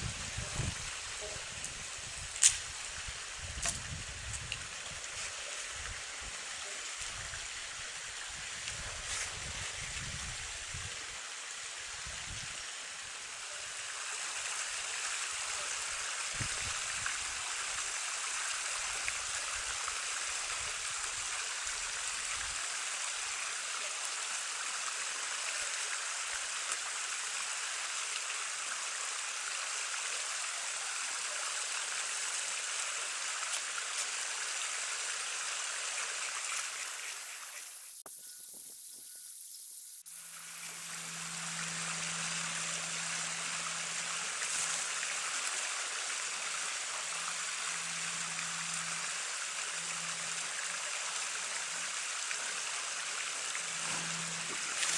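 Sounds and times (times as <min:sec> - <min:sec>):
creek running over rocks: 0:00.0 - 0:54.9.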